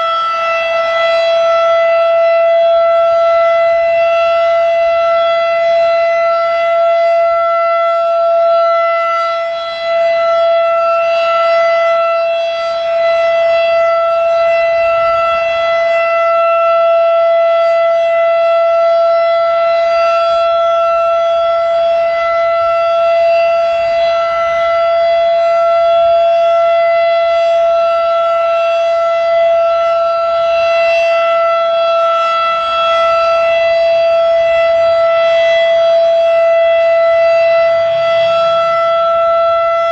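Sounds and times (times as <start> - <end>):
mechanical warning siren: 0.0 - 39.9.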